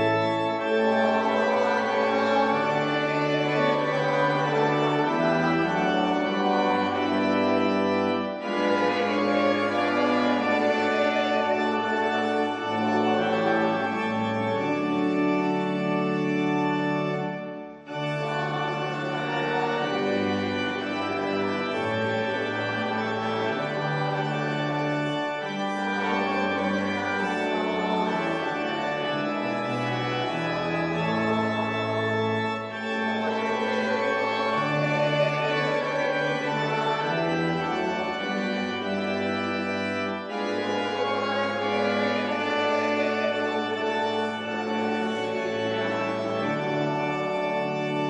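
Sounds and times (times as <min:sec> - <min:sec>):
church organ playing a hymn: 0:00.0 - 0:48.0.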